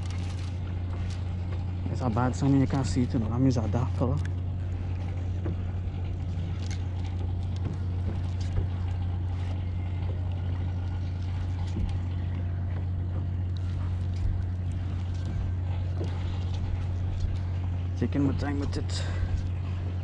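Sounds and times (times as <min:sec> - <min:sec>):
low motor drone: 0:00.0 - 0:20.0.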